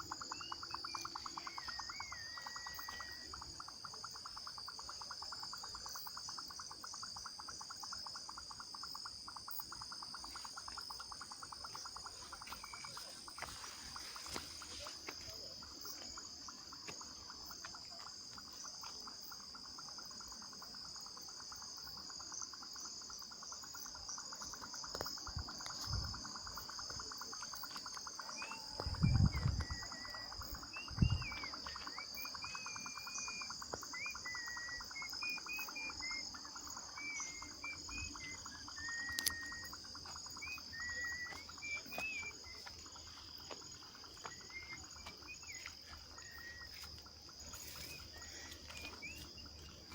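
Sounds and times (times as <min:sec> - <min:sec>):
insect pulsing trill: 0:00.0 - 0:49.9.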